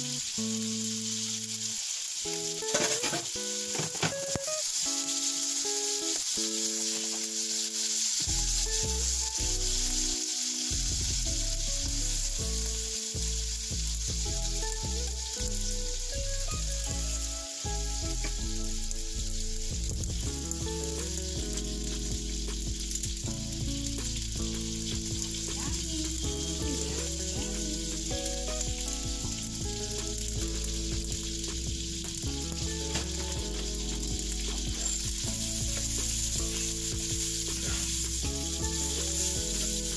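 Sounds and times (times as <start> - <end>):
sausages sizzling in a pan: 0.0 - 39.9
utensil turning sausages: 0.0 - 39.9
soft background music: 2.3 - 39.9.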